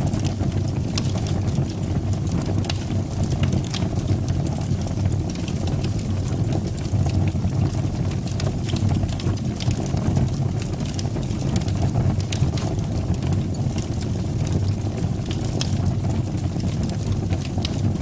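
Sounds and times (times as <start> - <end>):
fire roaring in fireplace: 0.0 - 18.0
wood crackling and popping: 0.0 - 18.0.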